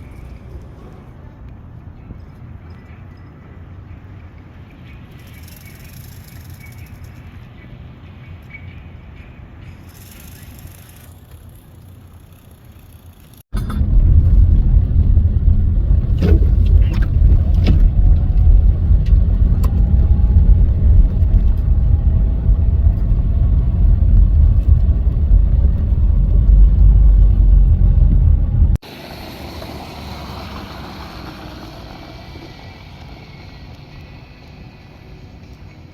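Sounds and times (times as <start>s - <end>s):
motor vehicle rumble: 0.0s - 35.9s.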